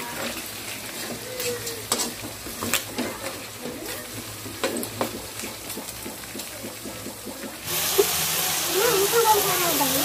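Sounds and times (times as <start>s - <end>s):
food frying in a pan: 0.0s - 10.0s.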